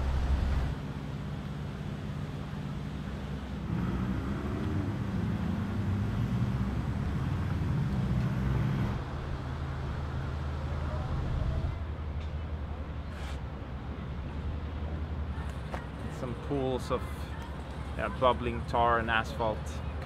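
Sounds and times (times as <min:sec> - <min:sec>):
hum of passing cars: 0:00.0 - 0:20.0
vehicle engine drone: 0:00.0 - 0:20.0.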